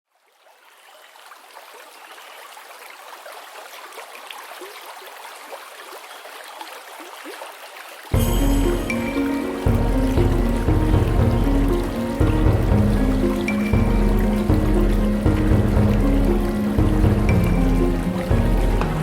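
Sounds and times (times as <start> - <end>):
water trickling and gurgling: 0.1 - 19.0.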